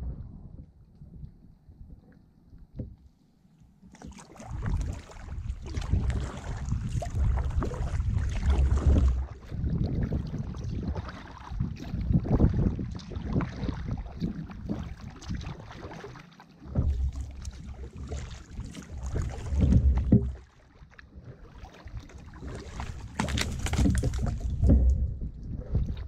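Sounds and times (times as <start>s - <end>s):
wind rumble on microphone: 0.0s - 3.1s, 4.4s - 20.5s, 21.1s - 26.0s
paddle splashing in water: 3.8s - 26.0s.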